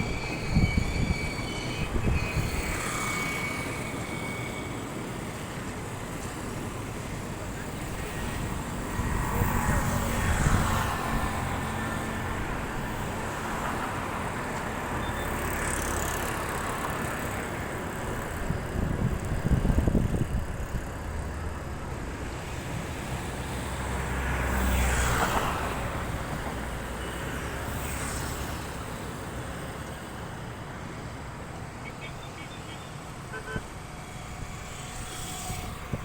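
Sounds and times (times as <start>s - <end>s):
low traffic rumble: 0.0s - 36.0s
vehicles passing: 1.9s - 36.0s.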